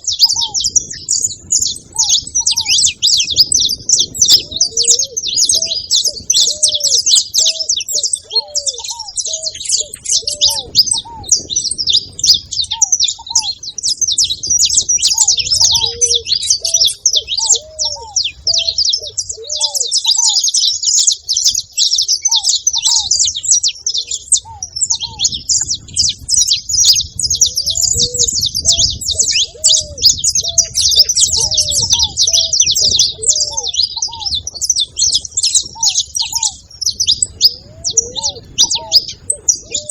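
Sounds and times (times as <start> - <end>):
finch chirping and singing: 0.0 - 39.9
lower bird arched notes: 0.0 - 39.9.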